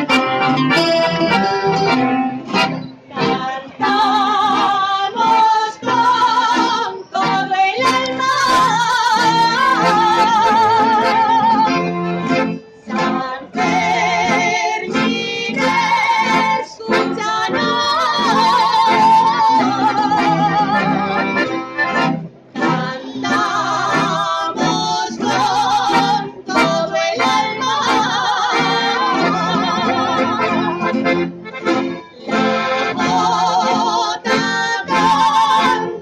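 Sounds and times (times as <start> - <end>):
accordion: 0.0 - 36.0
guitars: 0.0 - 36.0
group of people singing: 3.1 - 21.4, 22.6 - 36.0.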